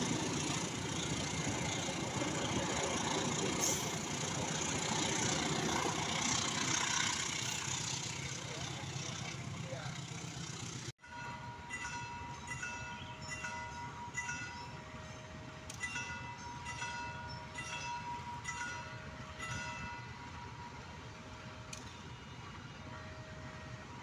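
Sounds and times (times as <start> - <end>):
diesel locomotive rumble: 0.0 - 24.0.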